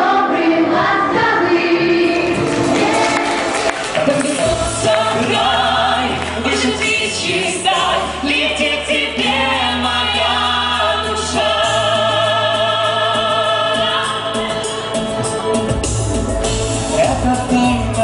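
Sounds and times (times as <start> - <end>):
voices singing in harmony: 0.0 - 15.7
pop backing track with bass: 0.8 - 18.0.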